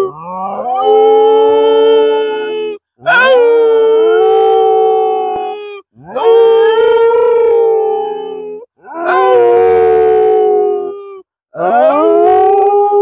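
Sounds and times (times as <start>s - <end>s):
dog howling: 0.0s - 13.0s
man howling: 0.0s - 13.0s.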